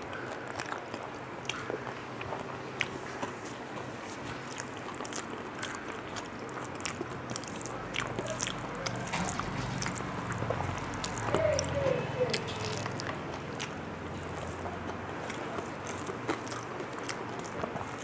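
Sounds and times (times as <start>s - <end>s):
wet mouth chewing clicks: 0.0s - 18.0s.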